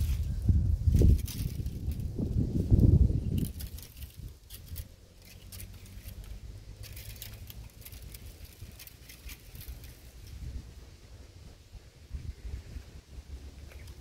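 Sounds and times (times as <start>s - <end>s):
wind on microphone: 0.0s - 5.4s, 6.0s - 14.0s
branches and leaves rustling: 0.0s - 14.0s.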